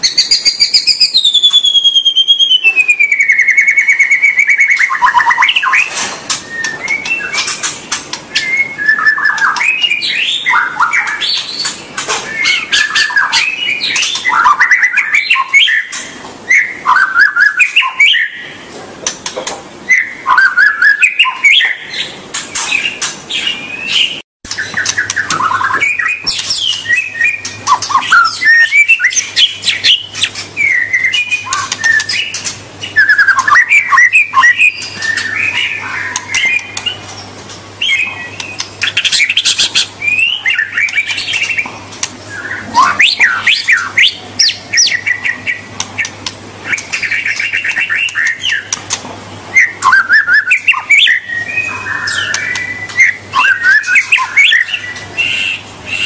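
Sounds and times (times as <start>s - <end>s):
bird singing whistled song: 0.0s - 7.7s, 8.3s - 18.6s, 19.8s - 37.2s, 37.8s - 41.7s, 42.3s - 48.8s, 49.5s - 56.0s.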